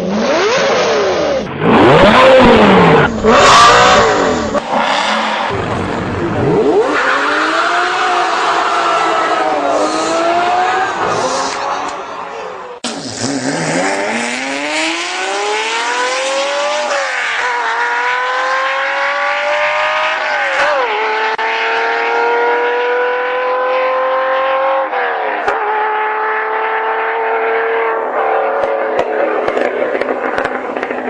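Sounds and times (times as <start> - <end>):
car engine accelerating through gears: 0.0 - 12.2, 12.8 - 31.0.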